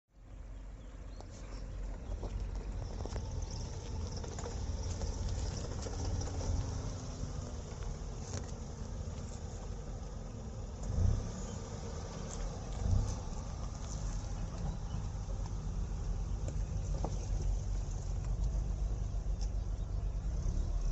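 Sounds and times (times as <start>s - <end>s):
car driving on rough road: 0.2s - 20.9s.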